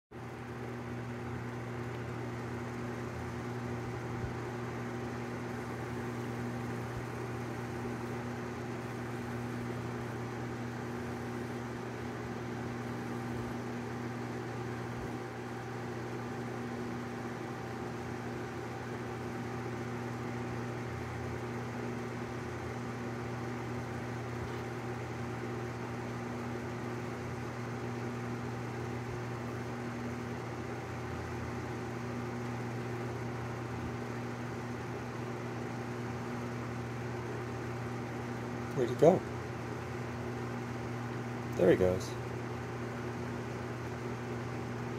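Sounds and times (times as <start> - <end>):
electric fan humming: 0.1 - 44.9.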